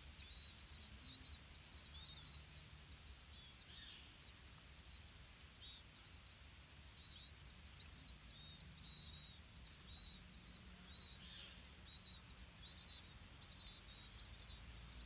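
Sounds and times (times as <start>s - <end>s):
high-pitched bird chirps: 0.0s - 15.0s.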